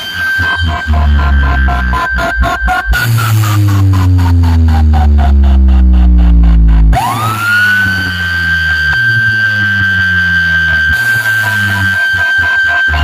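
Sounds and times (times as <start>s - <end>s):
loud electronic dance music: 0.0s - 13.0s
siren-like synth tone: 0.0s - 13.0s.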